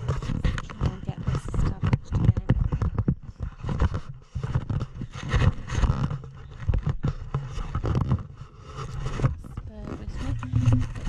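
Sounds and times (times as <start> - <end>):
scrapes and knocks: 0.0 - 11.0.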